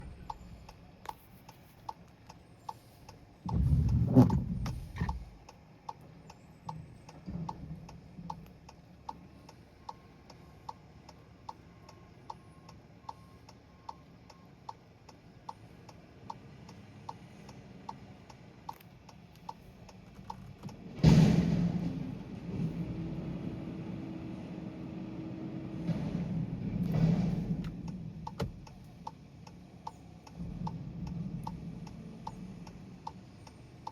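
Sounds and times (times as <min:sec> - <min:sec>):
turn signal ticking: 0:00.0 - 0:20.8, 0:27.5 - 0:33.9.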